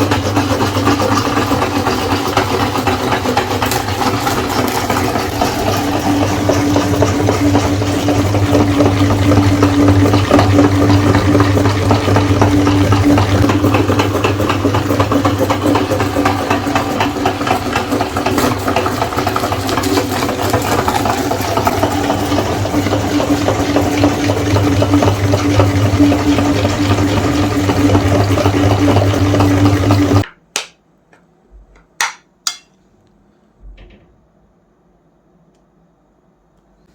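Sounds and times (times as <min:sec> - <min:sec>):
meat grinder grinding: 0:00.0 - 0:30.2.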